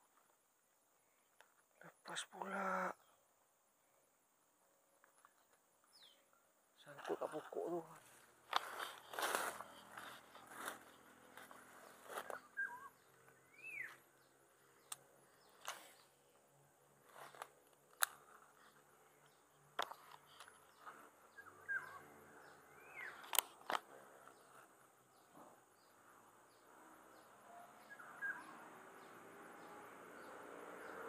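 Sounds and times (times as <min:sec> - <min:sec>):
birds chirping: 0:05.0 - 0:31.0.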